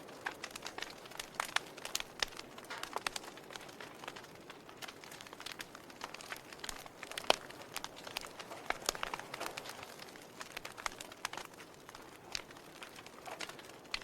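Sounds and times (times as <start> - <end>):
log fire crackling: 0.0 - 14.0.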